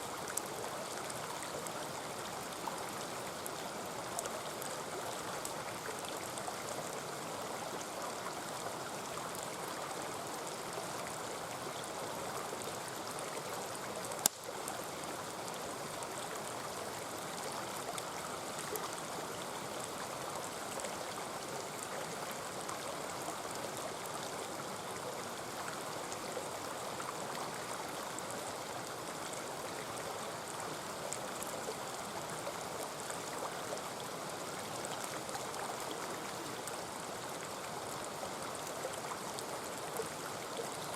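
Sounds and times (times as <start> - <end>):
faint campfire crackle: 0.0 - 40.9
stream rushing and babbling: 0.0 - 40.9.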